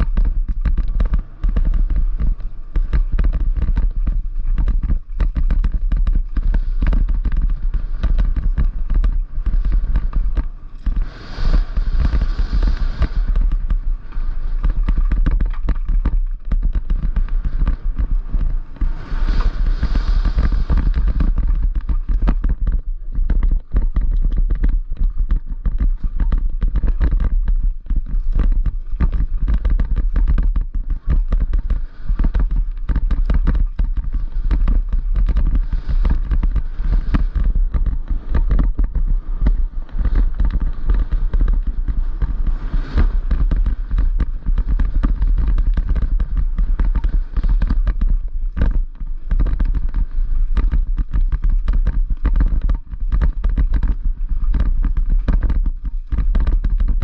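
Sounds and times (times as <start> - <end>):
mountain bike clattering over rocks: 0.0 - 11.0, 13.0 - 57.0
wind rumble on microphone: 0.0 - 57.0.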